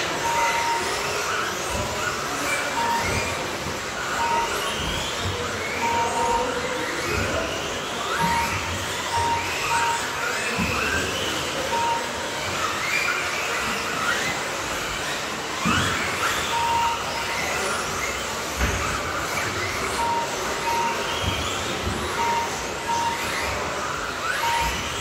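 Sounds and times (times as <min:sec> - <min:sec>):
short beeps: 0:00.0 - 0:13.0, 0:15.6 - 0:25.0
electric motors whining: 0:00.0 - 0:25.0.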